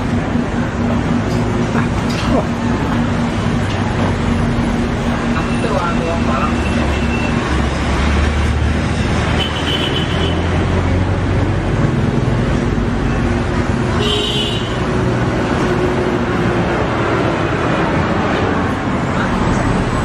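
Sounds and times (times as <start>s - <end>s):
road traffic roar: 0.0s - 20.0s
vehicle engine rumble: 0.0s - 20.0s.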